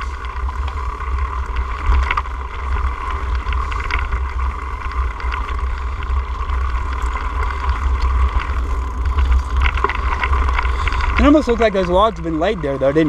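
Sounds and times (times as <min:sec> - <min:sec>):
bike rumbling over rocky trail: 0:00.0 - 0:13.0
bike ticking and rattling: 0:00.0 - 0:13.0.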